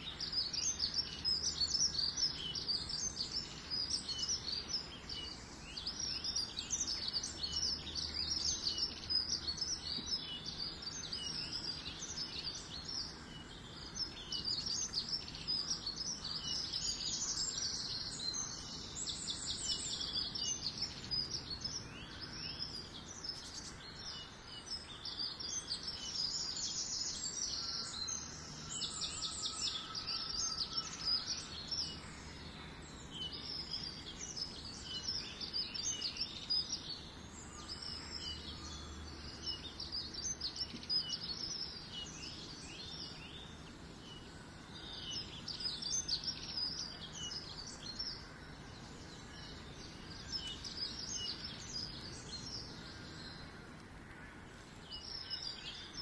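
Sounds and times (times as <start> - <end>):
songbirds chorus: 0.0 - 56.0.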